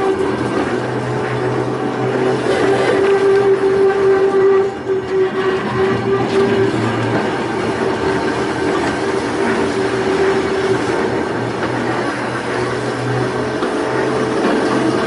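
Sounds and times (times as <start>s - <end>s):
railway car wheels rumbling on rails: 0.0s - 15.0s
steady humming tone: 0.0s - 15.0s.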